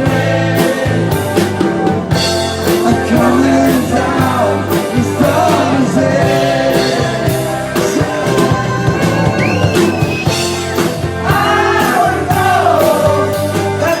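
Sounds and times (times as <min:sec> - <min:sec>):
rock song with sung vocals: 0:00.0 - 0:14.0.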